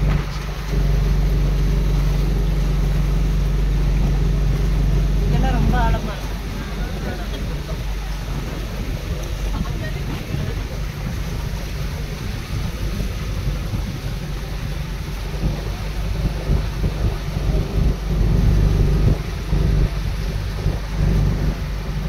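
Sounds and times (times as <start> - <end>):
water wash: 0.0 - 22.0
wind buffeting microphone: 0.0 - 22.0.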